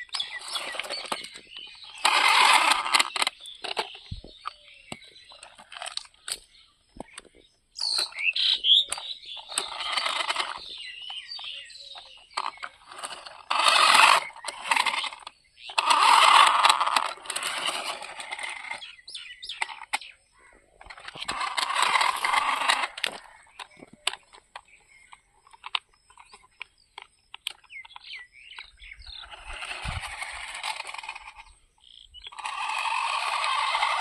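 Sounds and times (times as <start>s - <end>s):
toy car electric motor rushing: 0.0s - 4.6s, 5.3s - 6.4s, 7.8s - 20.1s, 20.8s - 24.7s, 25.5s - 28.0s, 28.6s - 34.0s.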